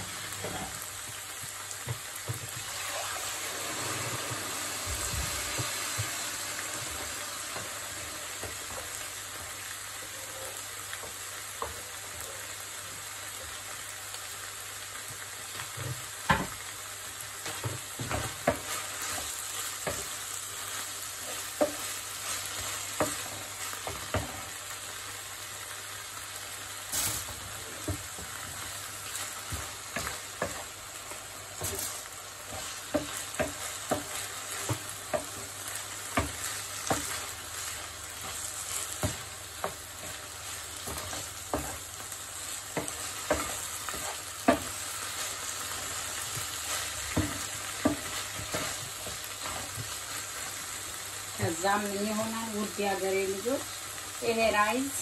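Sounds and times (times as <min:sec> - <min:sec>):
water sizzling in hot pan: 0:00.0 - 0:55.0.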